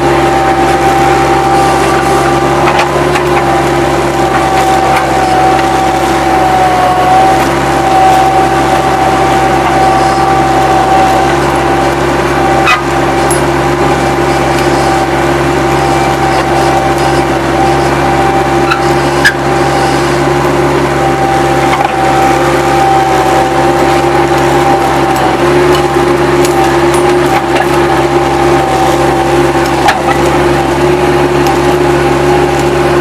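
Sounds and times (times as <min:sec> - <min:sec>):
skid-steer loader diesel drone: 0:00.0 - 0:33.0.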